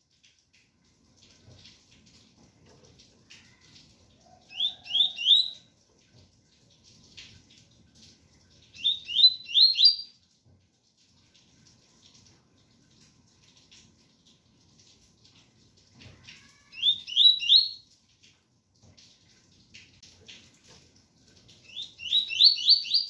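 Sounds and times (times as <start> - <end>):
faint rain: 0.0 - 23.0.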